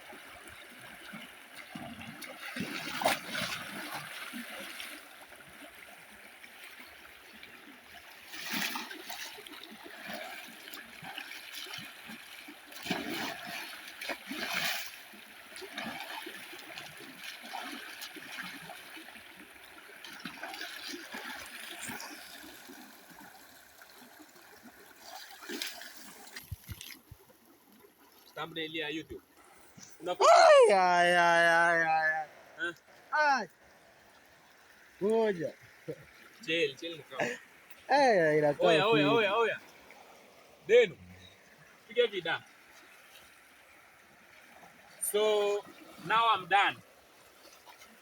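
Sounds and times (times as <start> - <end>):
water splashing: 0.0 - 48.0.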